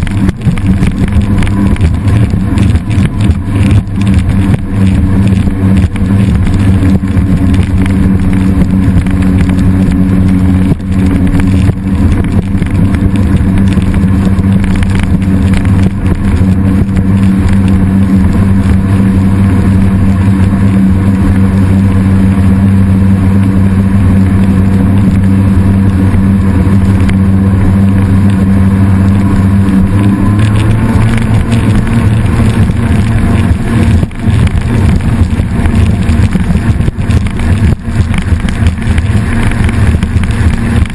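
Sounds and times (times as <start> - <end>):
engine running loud: 0.0 - 40.9.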